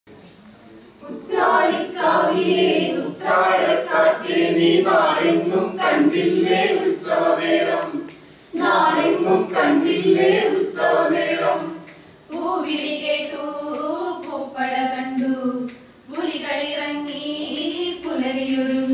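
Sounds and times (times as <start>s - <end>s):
women singing in unison: 1.0s - 18.9s.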